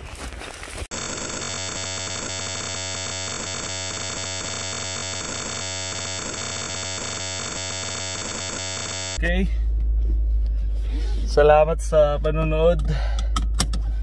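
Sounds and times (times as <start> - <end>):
electronic drone with faint pulse: 0.9 - 12.6.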